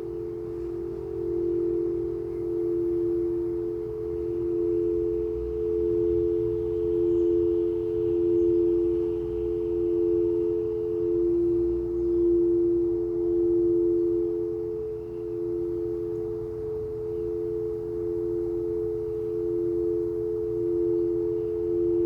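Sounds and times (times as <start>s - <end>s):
singing bowl ringing: 0.0s - 22.0s.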